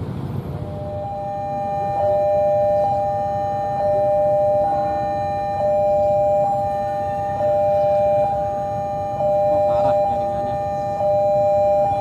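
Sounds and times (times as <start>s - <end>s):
level crossing alarm wailing: 0.6s - 12.0s.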